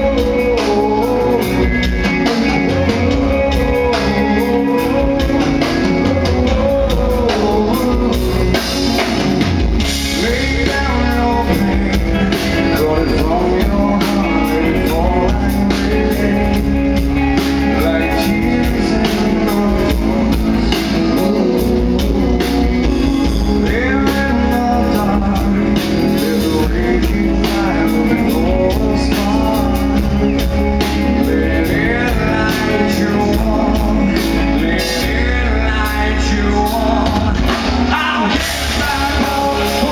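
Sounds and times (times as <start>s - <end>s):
man singing: 0.0s - 39.9s
rock band playing loudly: 0.0s - 39.9s.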